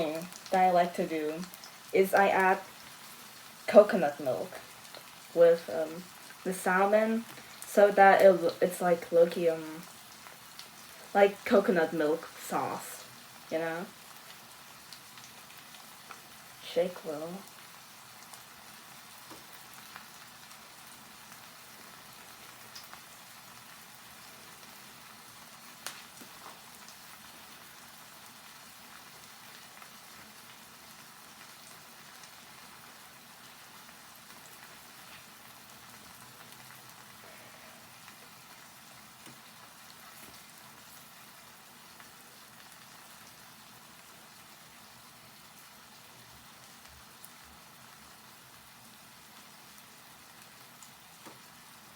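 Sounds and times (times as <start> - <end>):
fish sizzling in a pan: 0.0 - 51.9.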